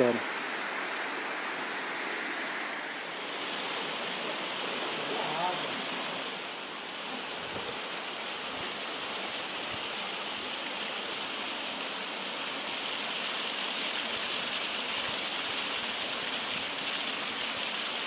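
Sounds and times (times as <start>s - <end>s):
small waterfall rushing: 0.0s - 18.0s.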